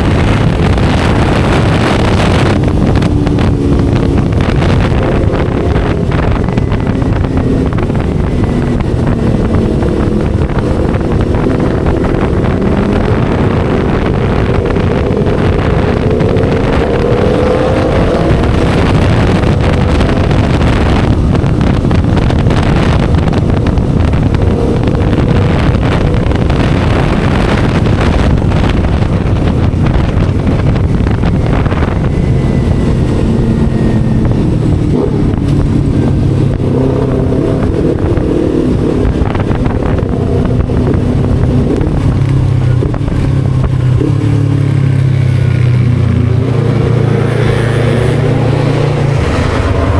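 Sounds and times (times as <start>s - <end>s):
motorcycle engine accelerating: 0.0s - 49.9s
wind buffeting microphone: 0.0s - 49.9s.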